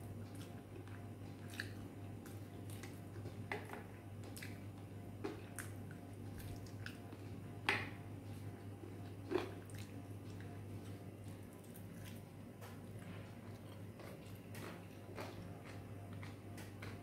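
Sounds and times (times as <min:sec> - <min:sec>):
person chewing with wet mouth sounds: 0:00.0 - 0:17.0
steady low hum: 0:00.0 - 0:17.0.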